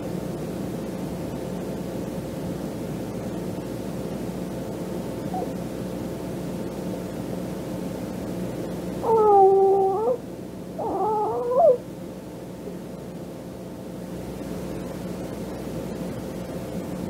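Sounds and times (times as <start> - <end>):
cassette tape hiss and hum: 0.0 - 17.0.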